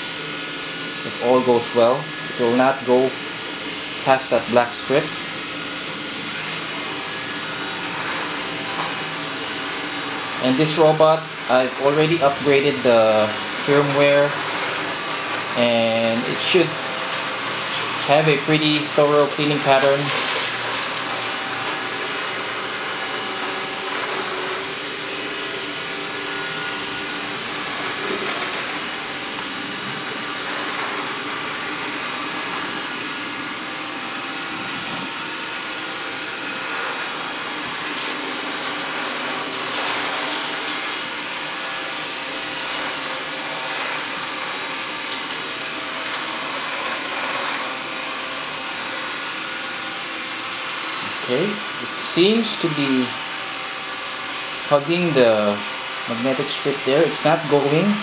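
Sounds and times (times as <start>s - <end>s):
robot vacuum whirring: 0.0s - 58.0s.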